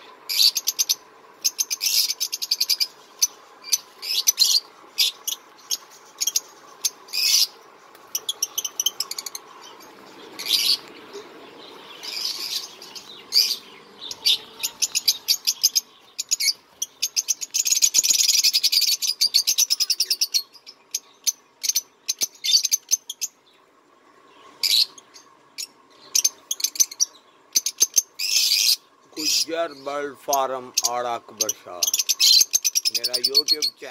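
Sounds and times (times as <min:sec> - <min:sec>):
rapid chattering bird trill: 0:00.0 - 0:23.4, 0:24.6 - 0:33.9
cage birds chirping: 0:00.0 - 0:33.9.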